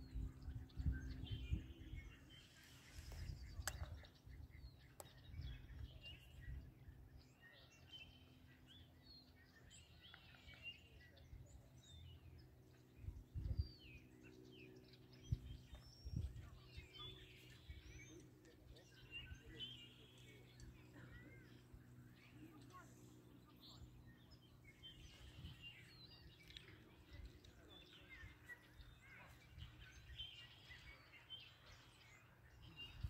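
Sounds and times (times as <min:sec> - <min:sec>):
birds chirping: 0:00.0 - 0:33.0
faint low hum: 0:00.0 - 0:33.0.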